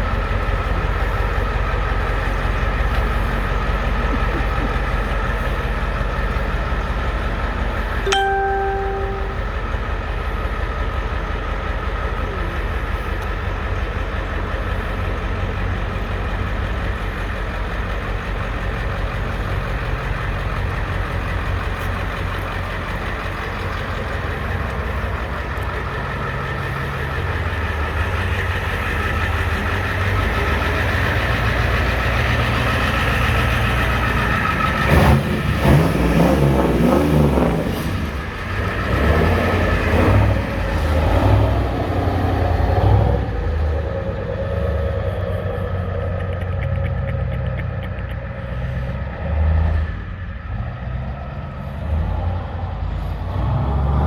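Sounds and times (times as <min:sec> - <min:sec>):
diesel engine running and revving: 0:00.0 - 0:08.0, 0:09.8 - 0:54.0.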